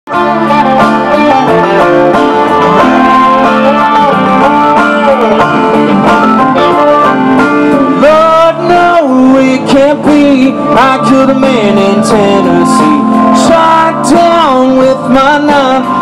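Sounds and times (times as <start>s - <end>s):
guitar: 0.1s - 16.0s
picked banjo: 0.1s - 16.0s.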